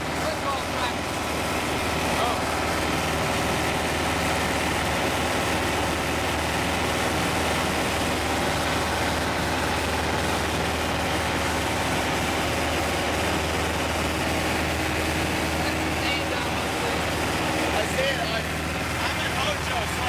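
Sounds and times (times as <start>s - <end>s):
airplane engine hum: 0.0s - 20.0s.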